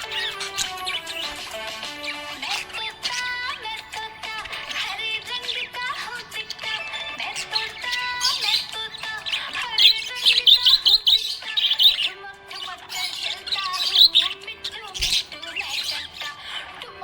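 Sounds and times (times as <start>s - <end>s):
parrot squawks: 0.0s - 16.9s
parrots chirping and warbling: 0.0s - 17.0s.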